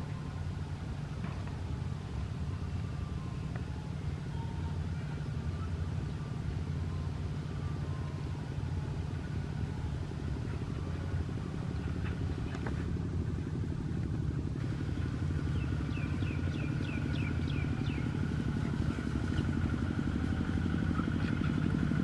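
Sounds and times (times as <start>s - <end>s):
motor engine rumbling: 0.0s - 22.0s.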